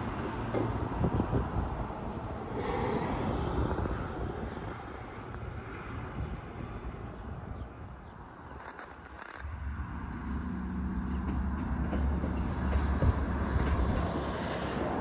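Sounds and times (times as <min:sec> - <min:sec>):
low rumble of passing vehicle: 0:00.0 - 0:15.0.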